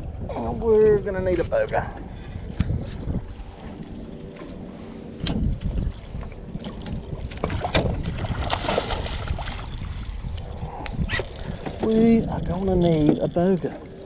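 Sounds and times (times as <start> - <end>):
water lapping at a boat: 0.0 - 14.0
wind buffeting microphone: 0.0 - 14.0.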